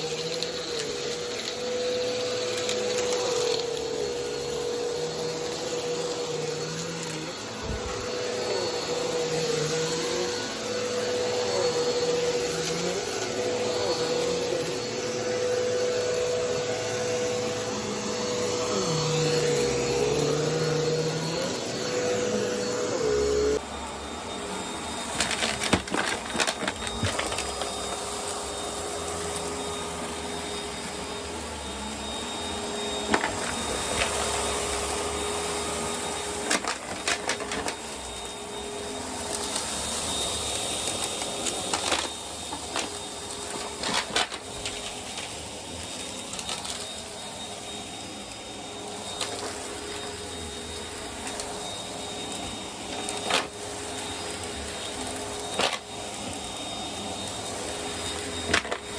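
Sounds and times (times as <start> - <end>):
vacuum cleaner running on carpet: 0.0 - 58.9.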